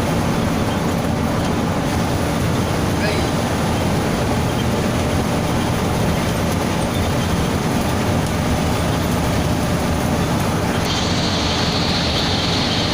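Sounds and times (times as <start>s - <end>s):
bus engine rumble: 0.0s - 12.9s
road noise: 0.0s - 12.9s.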